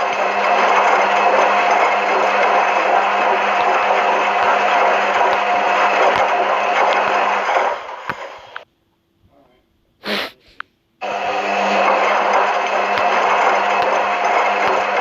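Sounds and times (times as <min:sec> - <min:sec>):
washing machine humming: 0:00.0 - 0:08.7, 0:11.0 - 0:15.0.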